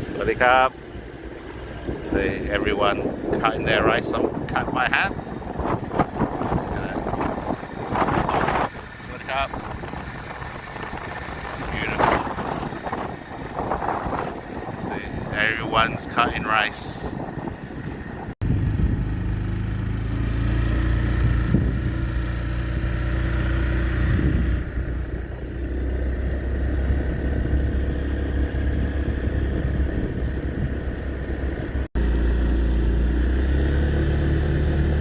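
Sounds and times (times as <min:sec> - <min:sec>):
vehicle engine running: 0:00.0 - 0:16.2, 0:17.2 - 0:35.0.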